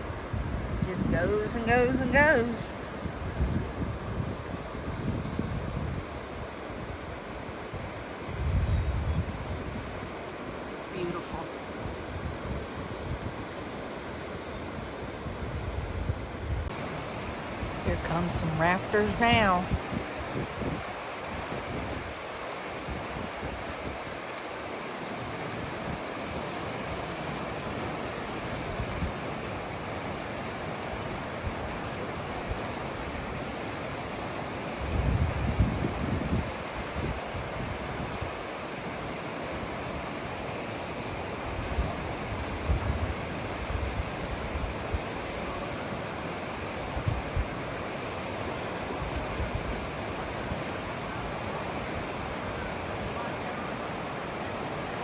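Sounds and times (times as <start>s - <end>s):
wind bumps on microphone: 0.0s - 13.7s, 14.7s - 24.5s, 25.1s - 38.6s, 41.1s - 45.8s, 46.6s - 53.4s
fast-flowing river water: 0.0s - 55.0s.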